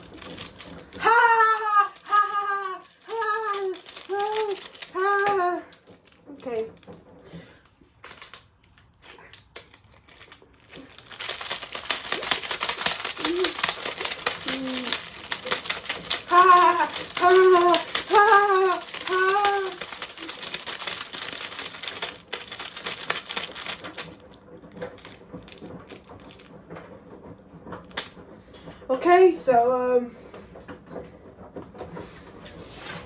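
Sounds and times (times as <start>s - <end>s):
washing machine clattering: 0.0s - 33.0s.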